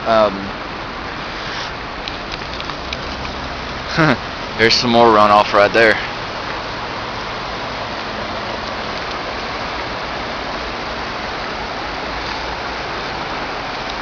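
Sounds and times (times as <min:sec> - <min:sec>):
floodwater rushing through ditch: 0:00.0 - 0:14.0.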